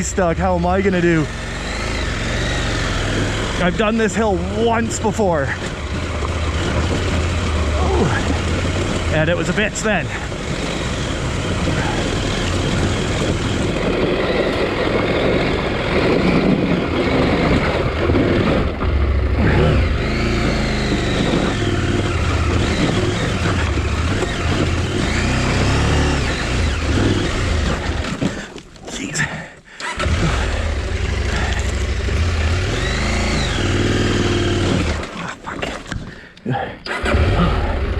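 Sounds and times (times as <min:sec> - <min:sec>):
motorcycle engine revving under load: 0:00.0 - 0:28.5, 0:29.8 - 0:35.3, 0:36.9 - 0:37.9.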